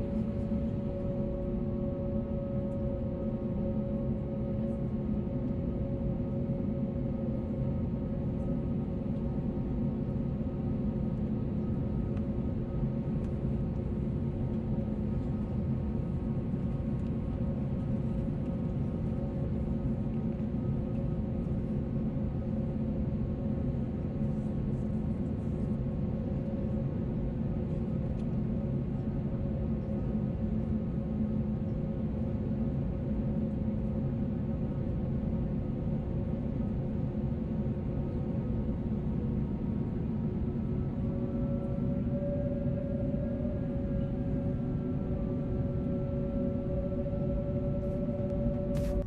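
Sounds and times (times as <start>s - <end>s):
jet engines droning in cabin: 0.0s - 49.0s.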